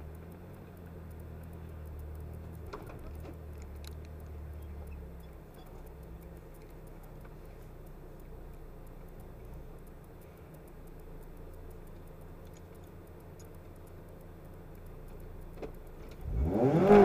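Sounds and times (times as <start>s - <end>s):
car engine idling: 0.0s - 17.0s
faint clicks: 0.0s - 17.0s.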